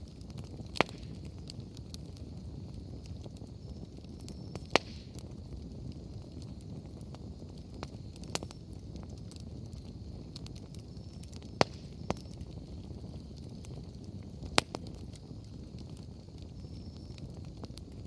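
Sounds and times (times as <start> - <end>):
bonfire flames rumbling: 0.0 - 18.0
firewood popping and crackling: 0.0 - 18.0.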